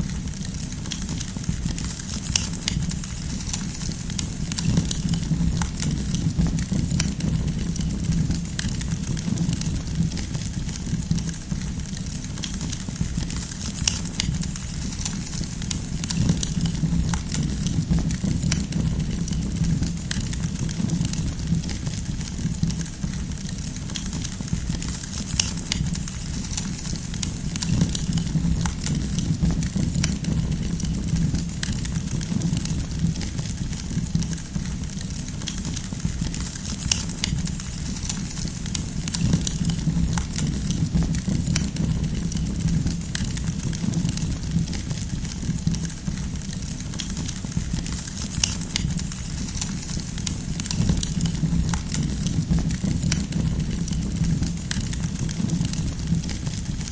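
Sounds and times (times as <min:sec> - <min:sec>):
campfire crackling: 0:00.0 - 0:56.9
low rumble of fire: 0:00.0 - 0:56.9.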